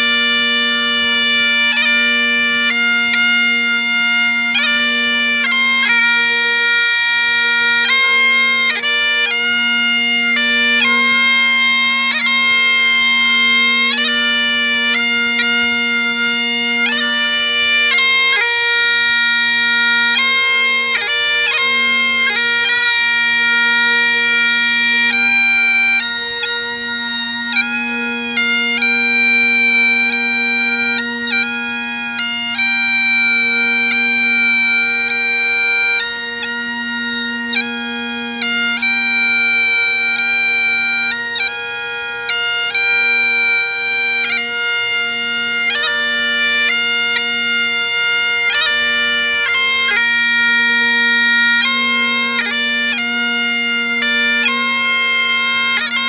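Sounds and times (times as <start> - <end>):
bagpipe chanter melody: 0.0 - 56.0
bagpipe drones humming: 0.0 - 56.0.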